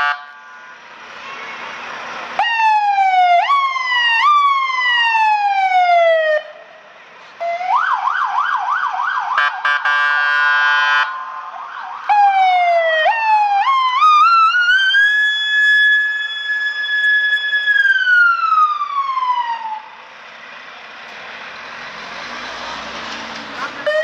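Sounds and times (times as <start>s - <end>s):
fire engine electronic siren: 0.0s - 6.8s, 7.4s - 20.0s, 23.8s - 24.0s.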